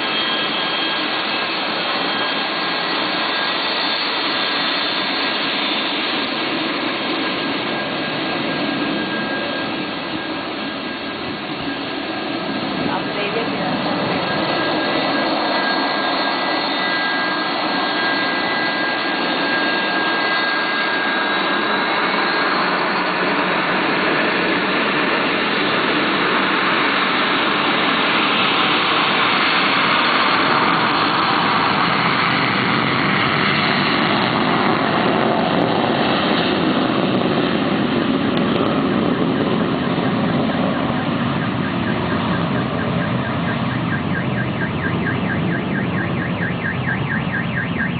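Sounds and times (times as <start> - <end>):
high engine whine: 0.0 - 47.9
jet engines roaring: 0.0 - 47.9.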